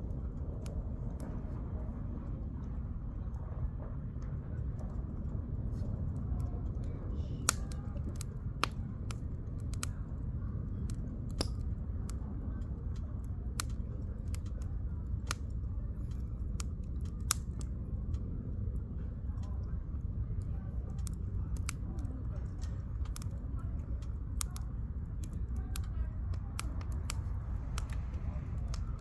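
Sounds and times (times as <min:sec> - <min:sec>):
campfire crackling and popping: 0:00.0 - 0:29.0
low steady fire rumble: 0:00.0 - 0:29.0.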